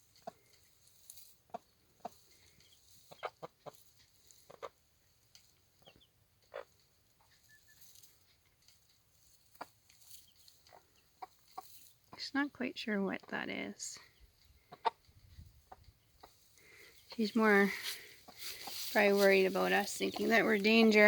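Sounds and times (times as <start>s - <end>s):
hen clucking: 1.4s - 12.3s, 13.1s - 21.0s
chicks peeping: 1.5s - 12.2s, 14.0s - 21.0s.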